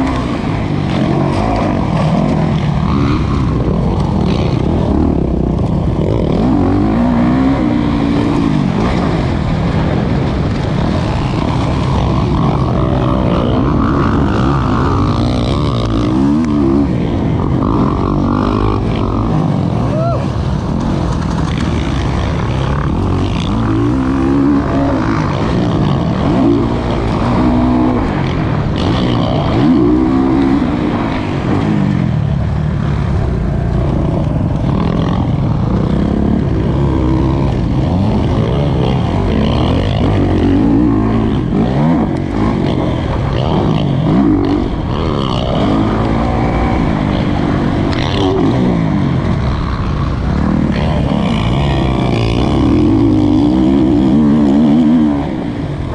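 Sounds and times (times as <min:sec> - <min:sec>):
motocross engine revving: 0:00.0 - 0:55.9.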